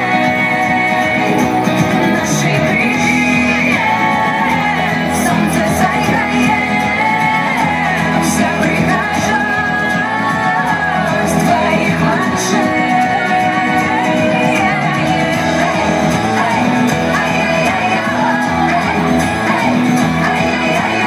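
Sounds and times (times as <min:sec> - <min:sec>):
recorded song with vocals: 0:00.0 - 0:21.0.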